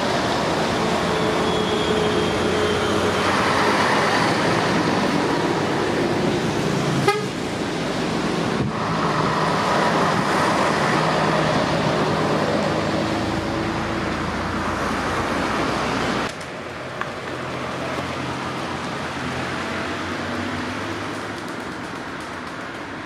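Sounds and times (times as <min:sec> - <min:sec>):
tyre and road noise: 0:00.0 - 0:23.0.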